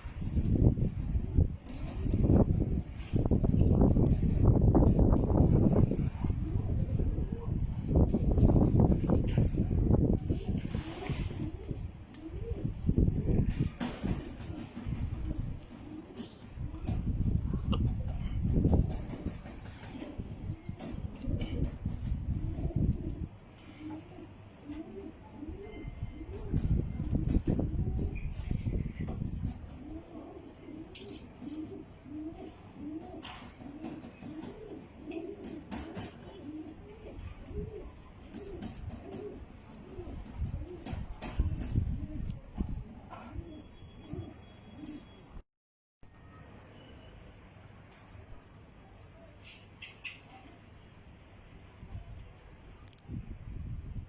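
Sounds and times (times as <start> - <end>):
pigeons cooing: 0.0 - 45.3.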